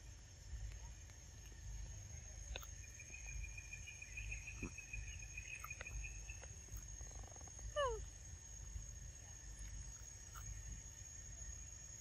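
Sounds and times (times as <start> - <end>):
high insect drone: 0.0 - 12.0
insect trilling: 0.4 - 8.7, 9.4 - 12.0.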